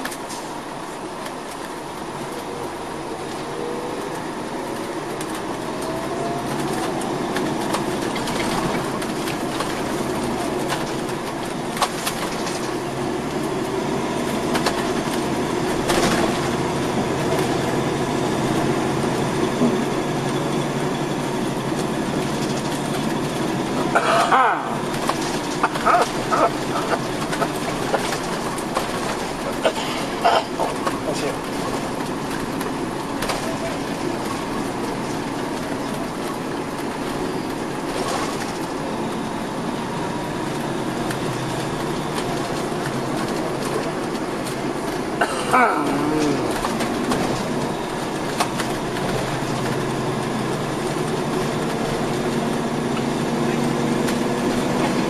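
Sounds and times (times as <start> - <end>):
bus road rumble: 0.0 - 55.0.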